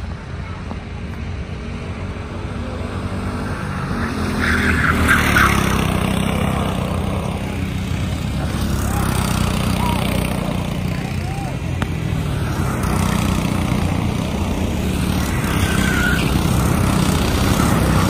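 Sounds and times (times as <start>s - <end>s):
go-kart engines buzzing: 0.0s - 18.0s.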